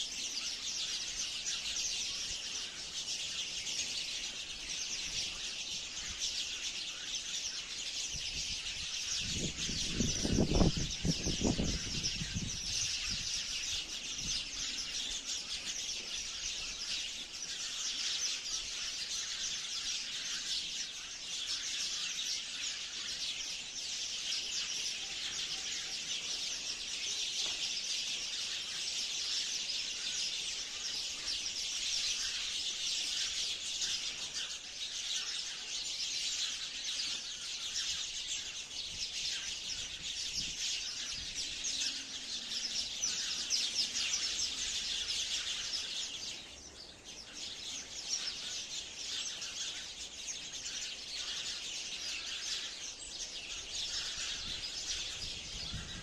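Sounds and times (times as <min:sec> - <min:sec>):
sparrows chirping: 0:00.0 - 0:56.0.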